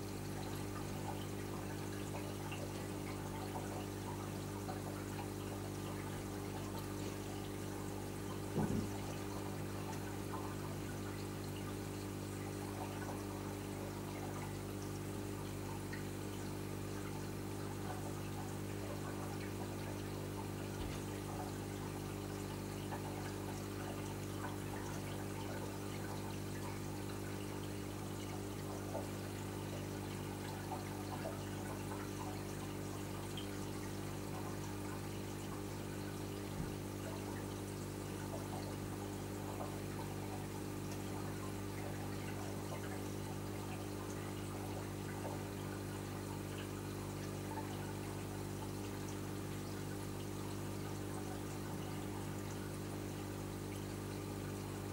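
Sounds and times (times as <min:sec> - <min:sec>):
aquarium pumps humming: 0:00.0 - 0:54.9
water trickling and splashing: 0:00.0 - 0:54.9.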